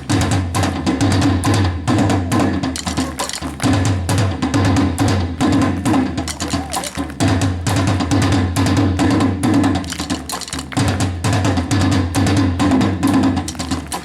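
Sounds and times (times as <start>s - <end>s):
percussion ensemble drumming: 0.0s - 14.0s.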